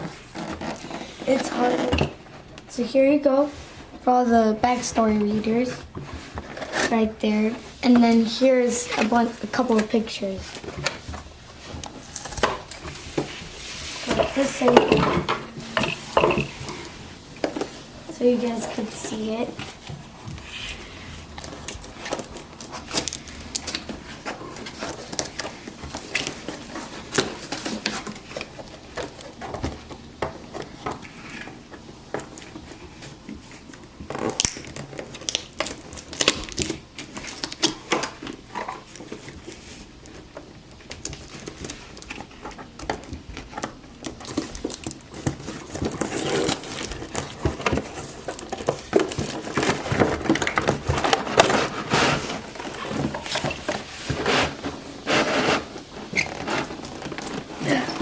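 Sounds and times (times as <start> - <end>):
packaging rustling and crinkling: 0.0 - 58.0.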